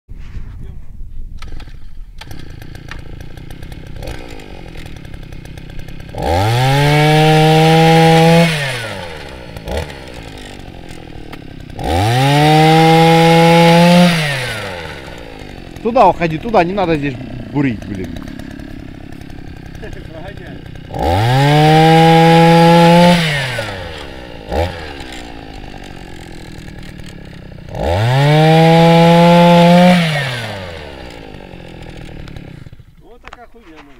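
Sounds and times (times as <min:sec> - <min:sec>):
two-stroke engine idling and revving: 0:01.4 - 0:33.4.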